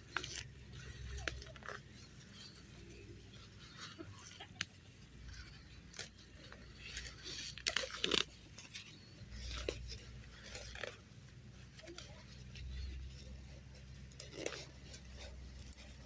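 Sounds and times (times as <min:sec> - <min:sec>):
rustling and crunching of plants: 0:00.0 - 0:16.0.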